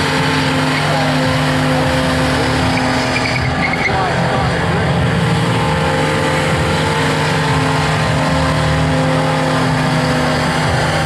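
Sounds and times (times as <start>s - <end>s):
car engine at high revs: 0.0s - 11.0s
tyres spinning on pavement: 0.0s - 11.0s.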